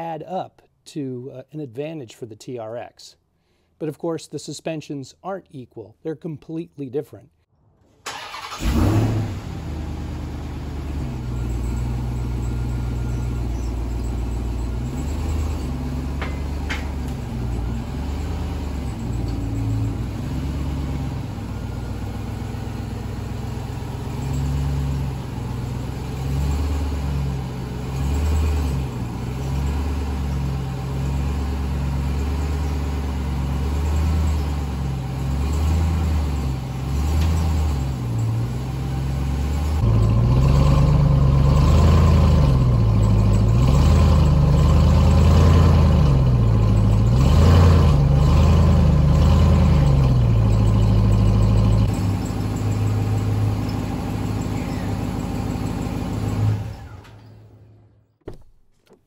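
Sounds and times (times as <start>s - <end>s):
truck engine revving under load: 8.0s - 58.0s.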